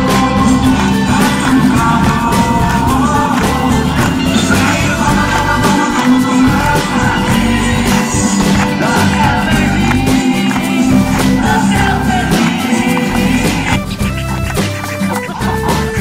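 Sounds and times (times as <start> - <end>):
pop song over loudspeakers: 0.0 - 14.1.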